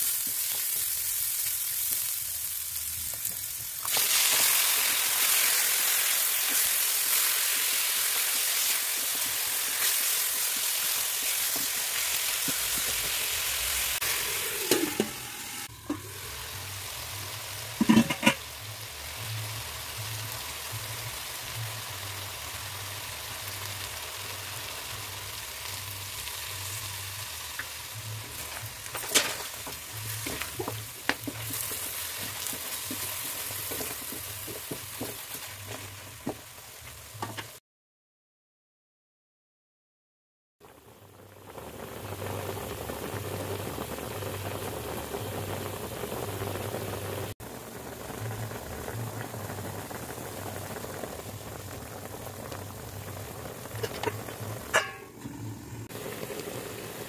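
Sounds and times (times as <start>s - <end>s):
food sizzling in a wok: 0.0s - 37.6s, 40.6s - 57.0s.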